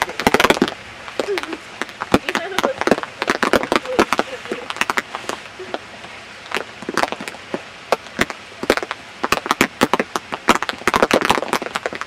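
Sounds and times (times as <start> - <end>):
raindrops tapping on microphone: 0.0 - 12.0
steady rain hiss: 0.0 - 12.0.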